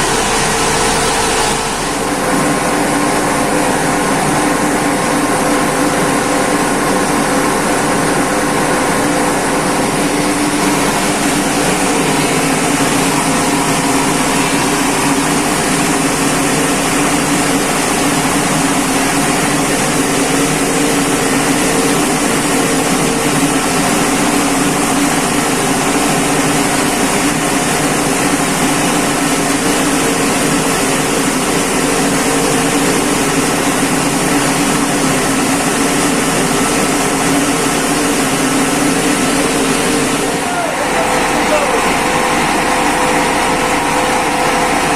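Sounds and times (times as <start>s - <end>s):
rice milling machine drone: 0.0s - 44.9s.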